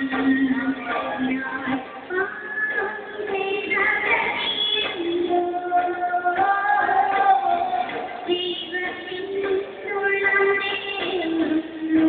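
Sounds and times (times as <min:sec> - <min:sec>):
woman singing into a microphone: 0:00.0 - 0:12.0.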